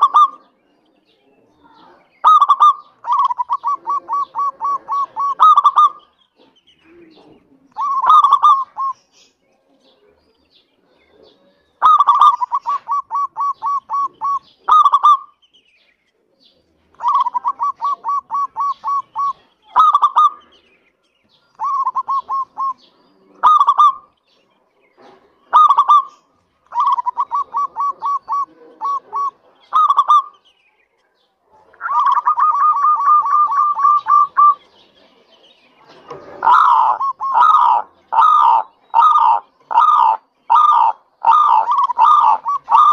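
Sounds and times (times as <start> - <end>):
dove cooing: 0.0 - 0.9, 1.6 - 9.0, 10.8 - 15.4, 17.0 - 20.7, 21.5 - 24.1, 25.0 - 30.4, 31.7 - 35.2, 35.8 - 42.9.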